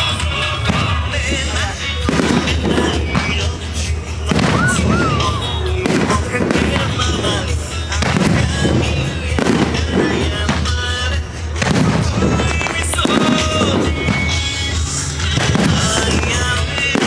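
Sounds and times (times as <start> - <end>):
fireworks bursting: 0.0 - 17.0
loud music: 0.0 - 17.0.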